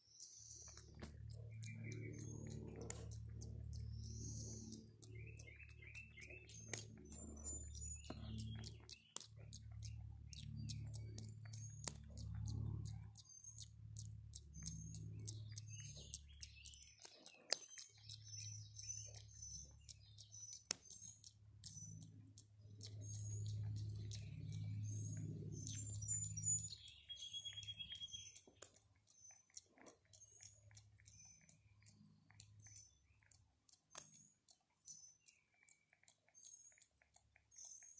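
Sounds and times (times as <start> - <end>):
monkey mouth clicks and lip-smacks: 0.0 - 37.9.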